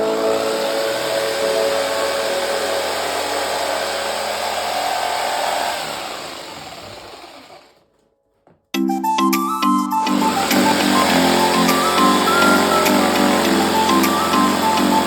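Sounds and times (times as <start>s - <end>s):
electric motor machine running: 0.0s - 7.8s, 10.1s - 15.0s
motor winding down: 0.0s - 7.8s, 10.1s - 15.0s.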